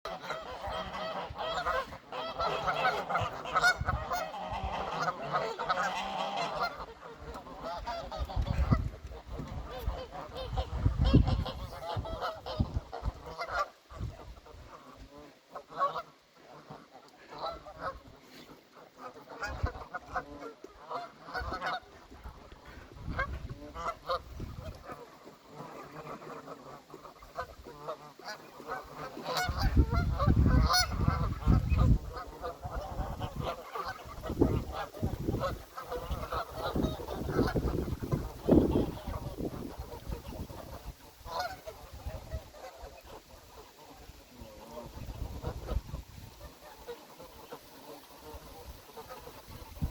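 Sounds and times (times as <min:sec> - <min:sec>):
geese honking: 0:00.1 - 0:49.9.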